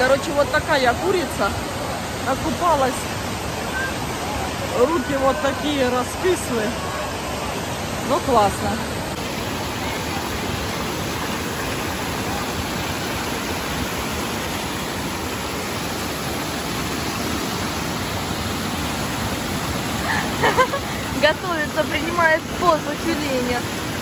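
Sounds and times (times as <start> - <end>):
water cascading over terraces: 0.0 - 24.0.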